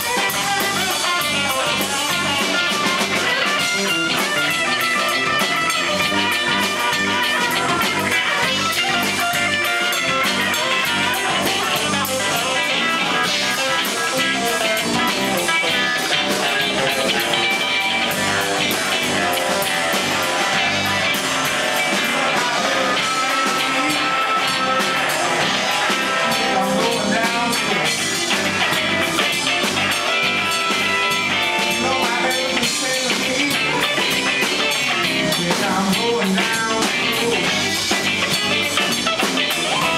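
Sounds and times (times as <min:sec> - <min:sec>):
bass guitar: 0:00.0 - 0:39.9
drum kit: 0:00.0 - 0:39.9
electric guitar lead lines: 0:00.0 - 0:39.9.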